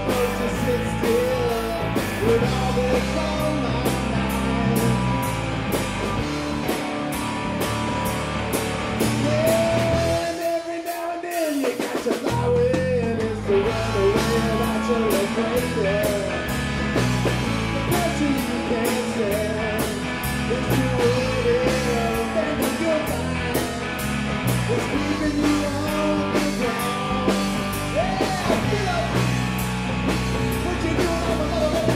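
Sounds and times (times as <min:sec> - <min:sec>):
sung lead vocal: 0:00.0 - 0:06.8, 0:08.9 - 0:31.9
live rock band playing: 0:00.0 - 0:31.9.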